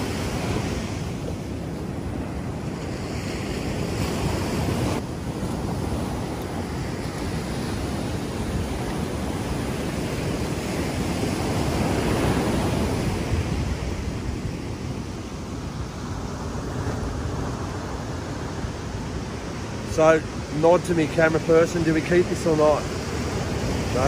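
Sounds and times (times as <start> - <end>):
ocean surf breaking on sand: 0.0 - 24.0
wind on microphone: 0.0 - 24.0.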